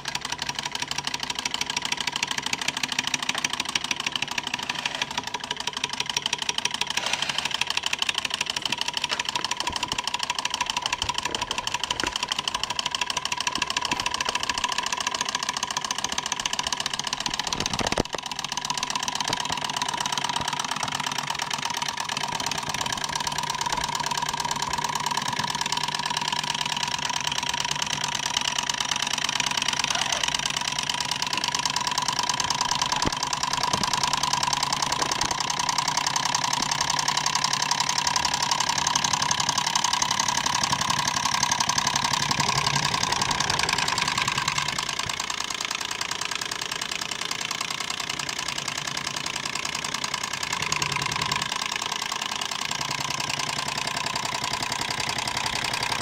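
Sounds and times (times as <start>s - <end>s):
model engine rattling: 0.0s - 56.0s.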